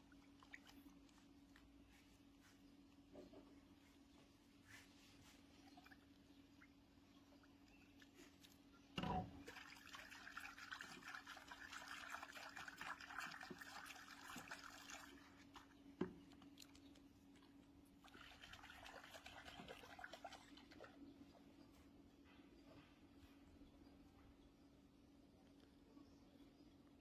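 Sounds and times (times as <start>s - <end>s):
faint water splashing: 0.0s - 22.0s.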